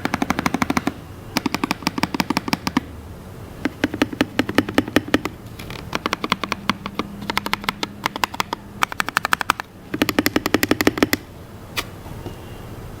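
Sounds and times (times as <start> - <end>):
mechanical keyboard typing: 0.0 - 2.9, 3.6 - 11.3.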